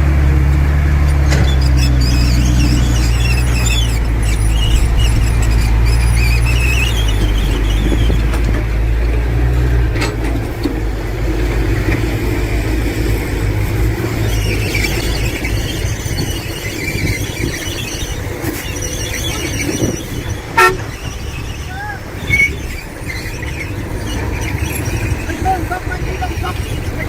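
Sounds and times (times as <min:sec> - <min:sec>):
diesel engine rumble: 0:00.0 - 0:27.0
metal squeals: 0:01.0 - 0:10.6, 0:11.8 - 0:27.0.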